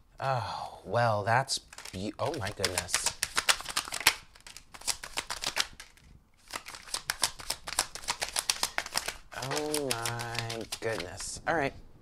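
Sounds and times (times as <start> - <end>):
cards being shuffled: 1.6 - 11.6.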